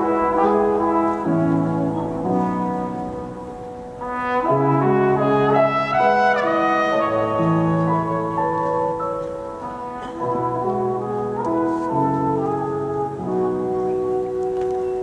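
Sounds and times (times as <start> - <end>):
trumpet solo melody: 0.0 - 15.0.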